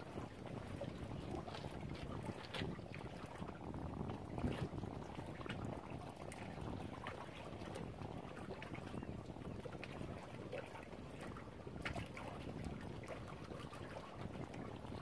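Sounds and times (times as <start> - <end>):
waves lapping against shore: 0.0 - 15.0
wind rumbling on microphone: 0.0 - 15.0.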